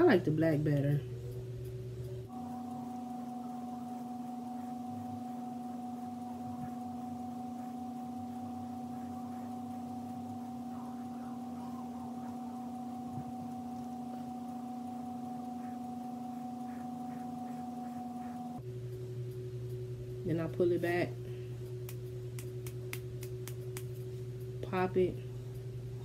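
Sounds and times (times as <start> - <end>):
electronic drone of pure tones: 0.8 - 21.8.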